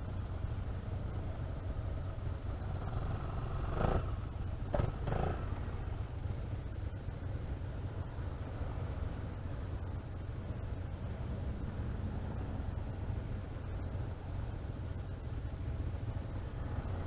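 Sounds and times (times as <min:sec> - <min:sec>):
scooter engines idling: 0:00.0 - 0:17.0.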